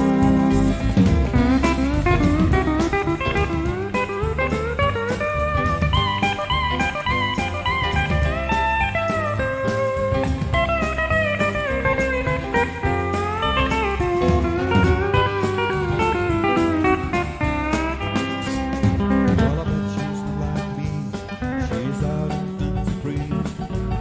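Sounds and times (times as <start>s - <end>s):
bass: 0.0s - 24.0s
drum kit beat: 0.0s - 24.0s
lead guitar melody: 0.0s - 24.0s.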